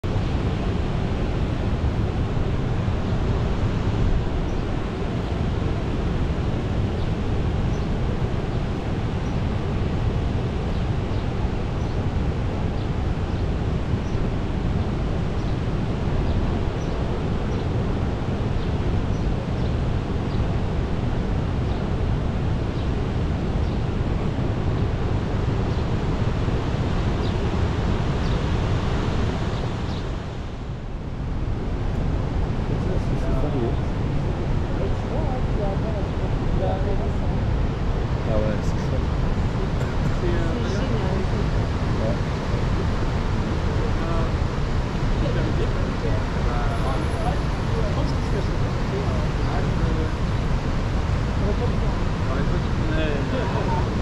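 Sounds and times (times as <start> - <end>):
river rushing over weir: 0.1 - 54.0.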